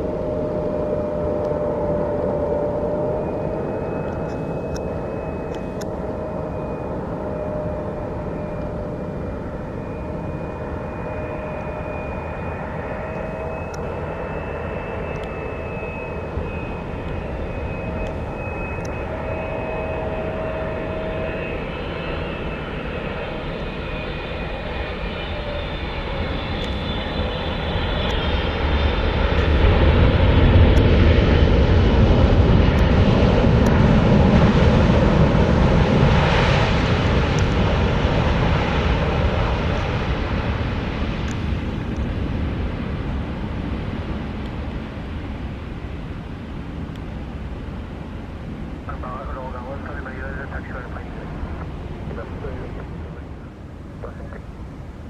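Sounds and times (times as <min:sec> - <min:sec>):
deep rumble of aircraft: 0:00.0 - 0:55.0
jet engines whining: 0:00.0 - 0:55.0.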